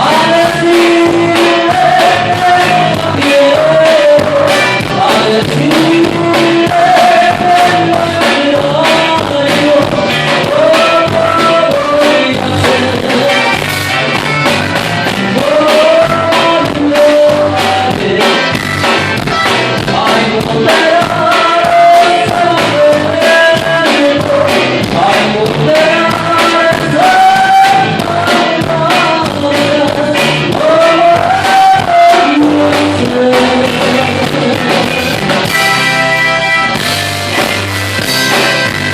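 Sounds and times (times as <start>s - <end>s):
lead singer singing: 0.0s - 37.0s
band playing song: 0.0s - 38.9s
steady drum beat: 0.0s - 38.9s.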